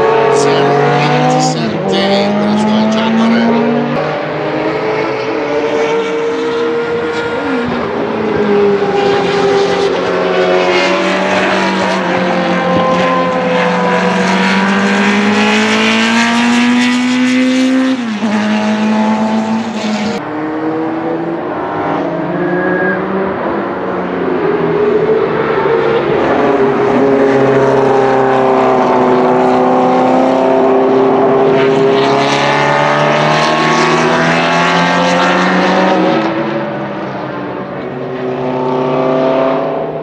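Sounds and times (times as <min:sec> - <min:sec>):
race car engine at high revs: 0:00.0 - 0:40.0.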